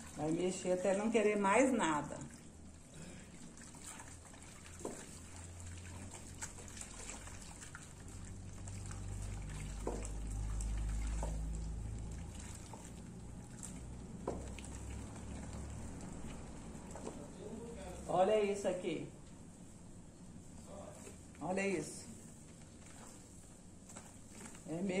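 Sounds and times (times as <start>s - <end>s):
liquid swishing and sloshing: 0.0s - 18.8s, 19.4s - 25.0s.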